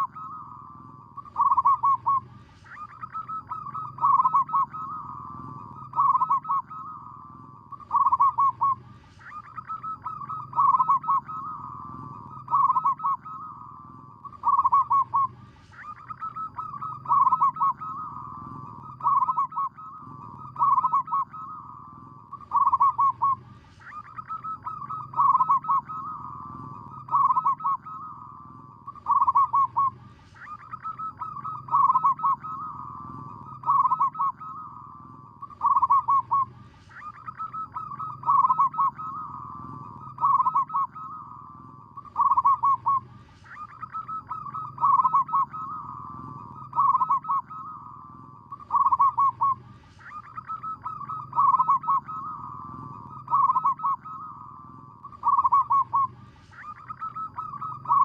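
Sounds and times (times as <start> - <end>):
dove stuttering cooing: 0.0 - 58.0.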